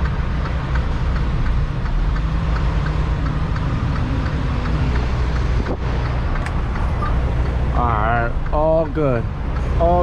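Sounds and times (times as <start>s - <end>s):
faint regular ticking: 0.0s - 10.0s.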